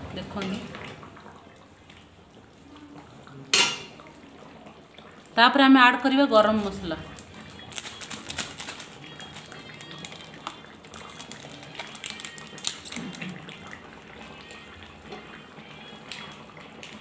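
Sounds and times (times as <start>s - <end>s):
curry bubbling with small pops: 0.2s - 8.0s, 8.8s - 17.0s.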